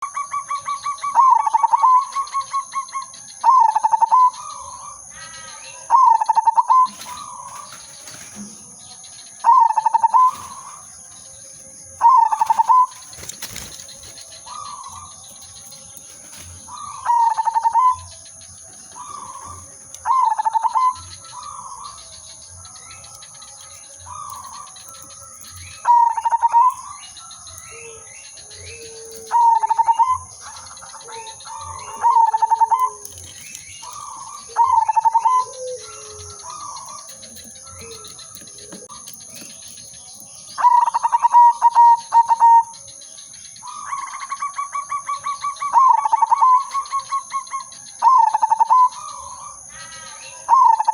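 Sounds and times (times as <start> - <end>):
dove cooing: 0.0 - 11.0, 11.6 - 42.9, 43.6 - 50.9
bird chirps: 0.0 - 50.9.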